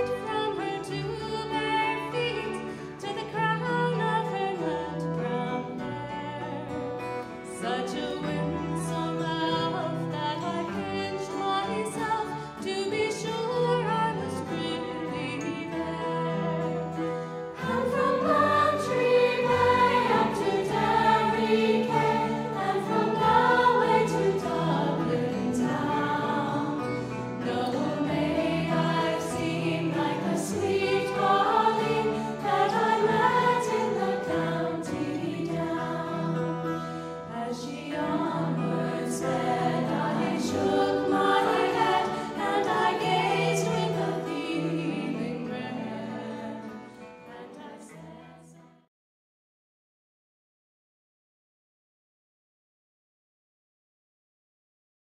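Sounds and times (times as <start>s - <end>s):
choral singing with music: 0.0s - 48.8s.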